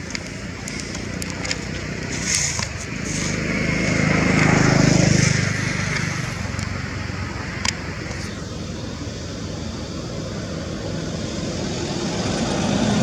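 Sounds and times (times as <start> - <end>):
vehicle passing by: 0.0 - 8.4, 10.8 - 13.0
steady engine hum: 0.0 - 13.0.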